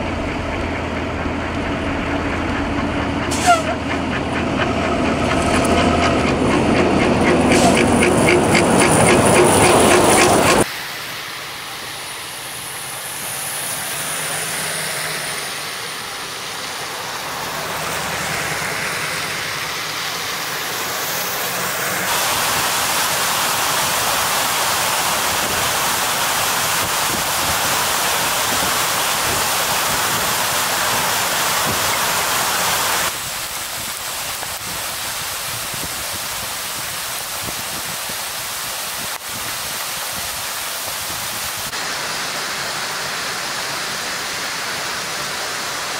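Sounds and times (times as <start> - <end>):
water hissing: 5.1 - 45.9
water rushing over rocks: 5.3 - 45.9.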